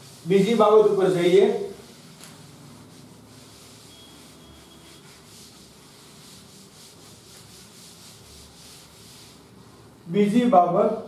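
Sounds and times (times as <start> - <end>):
cloth rubbing blackboard: 0.0 - 10.1.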